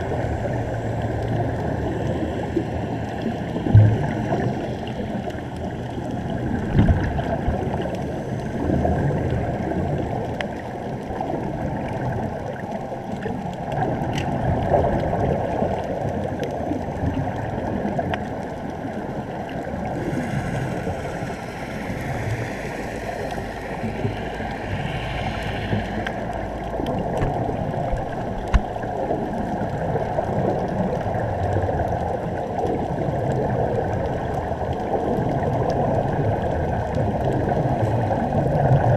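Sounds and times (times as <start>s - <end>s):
air bubbles: 0.0s - 38.9s
muffled underwater water wash: 0.0s - 38.9s.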